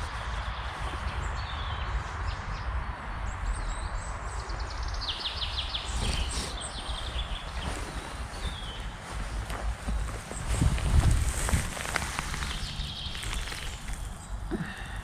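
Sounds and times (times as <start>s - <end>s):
forest birds singing: 0.0s - 15.0s.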